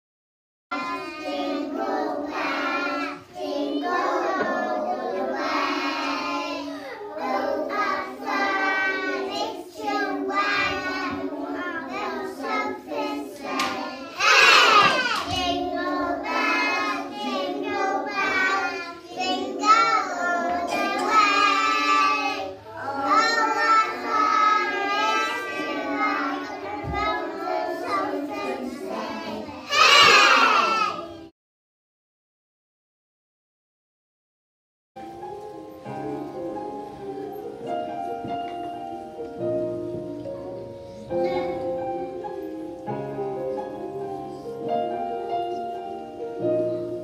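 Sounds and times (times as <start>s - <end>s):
children singing together: 0.7s - 31.3s, 35.0s - 47.0s.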